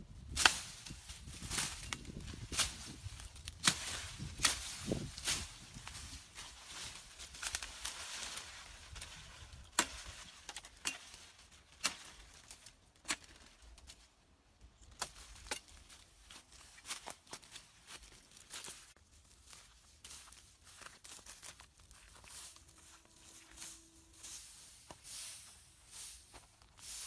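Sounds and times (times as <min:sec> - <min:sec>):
rustle of leaves and twigs: 0:00.0 - 0:27.0.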